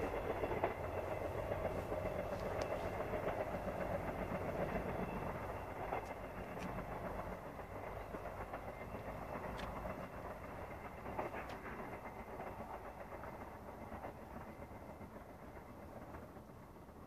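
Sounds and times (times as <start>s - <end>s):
train rumble and wheel clatter: 0.0s - 17.0s.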